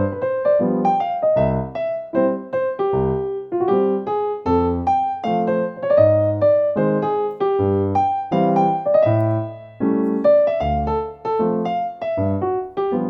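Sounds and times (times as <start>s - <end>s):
upbeat electric piano music: 0.0s - 13.0s.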